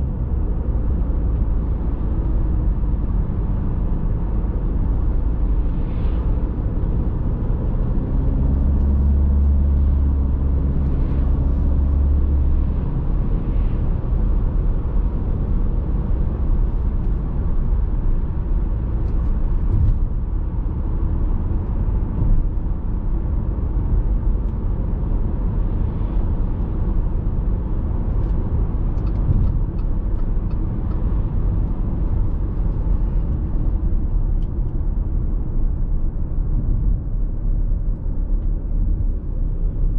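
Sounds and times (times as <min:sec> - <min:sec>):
deep low hum: 0:00.0 - 0:39.9
diesel engine drone: 0:00.0 - 0:39.9
road and wind noise: 0:00.0 - 0:39.9.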